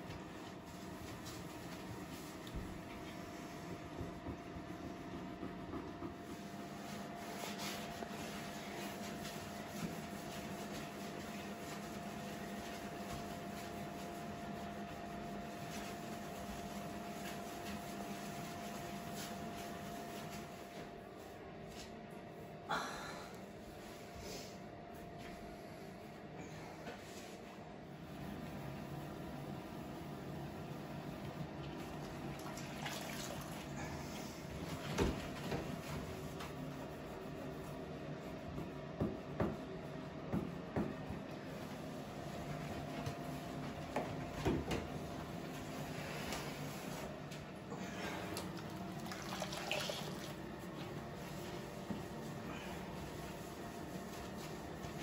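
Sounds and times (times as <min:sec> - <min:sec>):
cloth scrubbing tiled floor: 0:00.0 - 0:22.0, 0:28.0 - 0:55.0
faint constant hum: 0:00.0 - 0:55.0.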